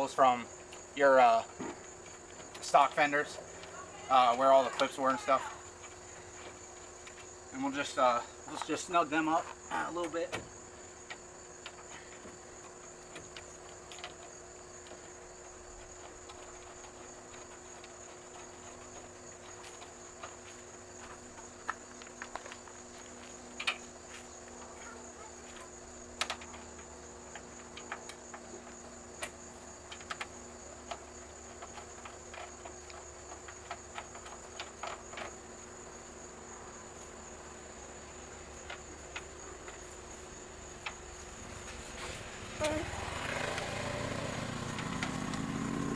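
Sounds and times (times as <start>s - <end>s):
crickets chirring: 0.0s - 45.9s.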